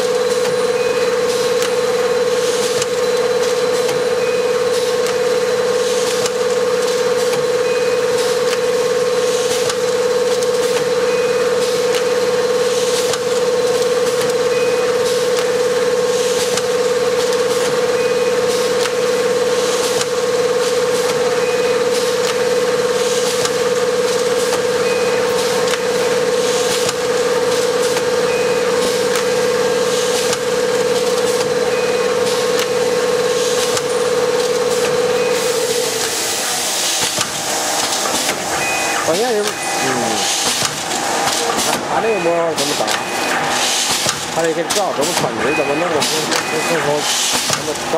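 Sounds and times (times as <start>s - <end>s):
packing machine humming: 0.0s - 47.9s.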